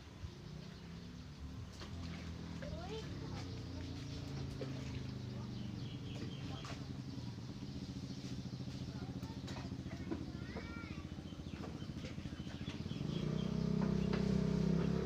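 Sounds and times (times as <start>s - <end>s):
small engine running: 0.5s - 15.0s.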